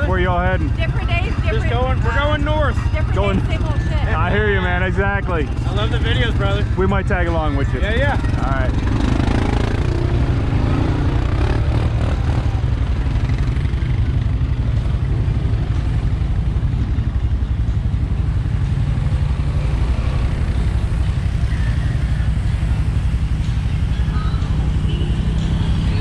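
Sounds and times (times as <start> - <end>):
atv engine rumbling: 0.0 - 26.0.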